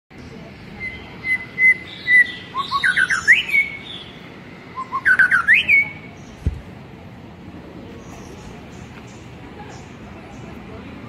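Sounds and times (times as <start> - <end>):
songbird singing: 0.1 - 7.0, 7.8 - 11.0.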